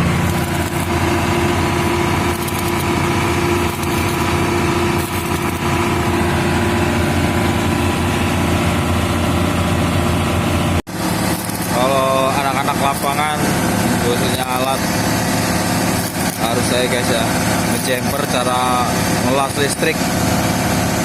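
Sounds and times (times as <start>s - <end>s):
diesel engines running: 0.0s - 21.0s.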